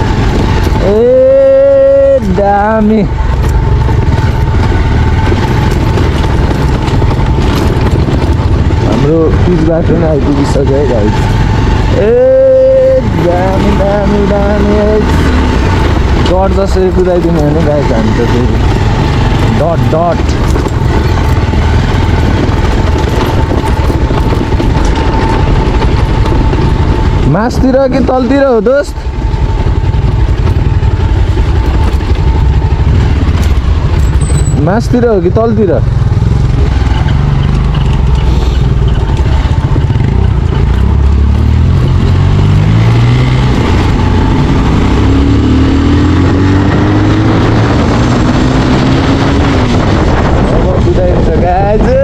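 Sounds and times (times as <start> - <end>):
motorcycle engine: 0.0 - 52.0
wind rumbling on microphone: 0.0 - 52.0.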